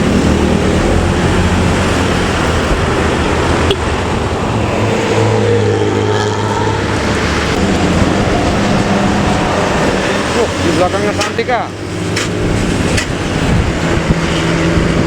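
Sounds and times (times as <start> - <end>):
bus engine running loudly: 0.0 - 15.0
road and traffic noise: 0.0 - 15.0.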